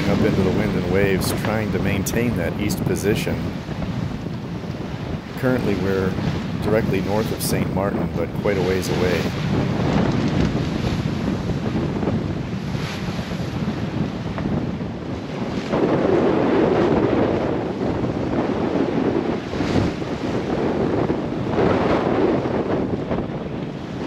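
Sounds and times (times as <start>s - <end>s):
seawater rushing along hull: 0.0s - 24.0s
wind buffeting microphone: 0.0s - 24.0s.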